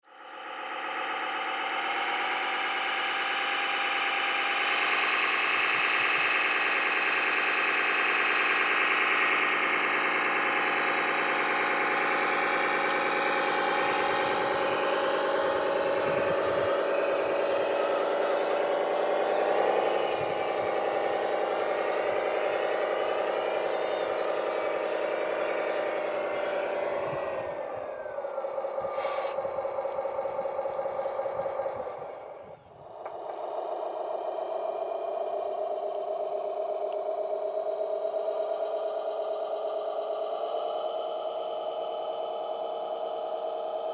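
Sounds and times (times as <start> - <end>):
model vehicle motor humming: 0.4 - 43.9.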